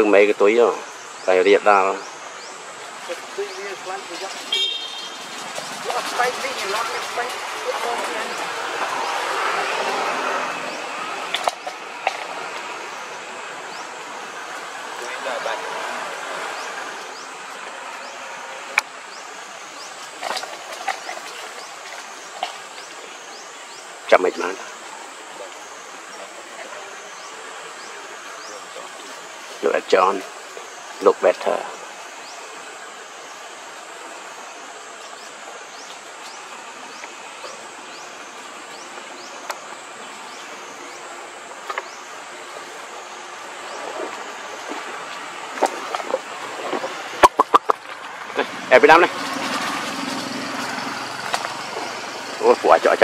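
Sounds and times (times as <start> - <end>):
steady hiss: 0.0 - 53.0.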